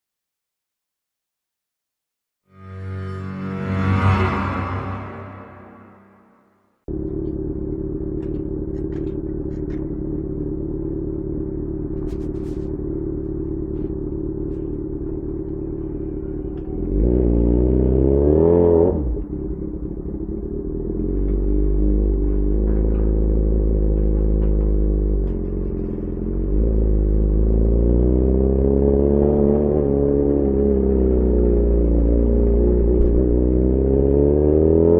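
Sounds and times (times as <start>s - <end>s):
motorcycle riding away: 2.6s - 6.0s, 6.9s - 34.9s
motorcycle engine idling and revving: 6.9s - 34.9s.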